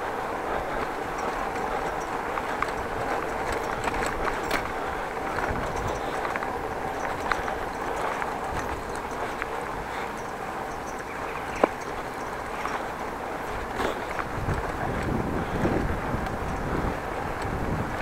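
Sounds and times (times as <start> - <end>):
bicycle tyres rumbling on bricks: 0.0 - 18.0
light clicks and rattles: 0.6 - 18.0.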